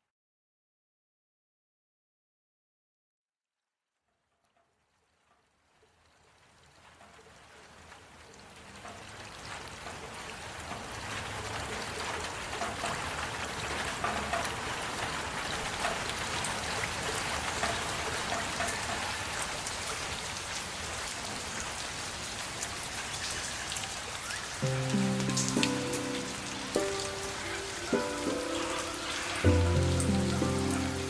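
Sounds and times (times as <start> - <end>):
heavy rain falling: 5.7 - 31.0.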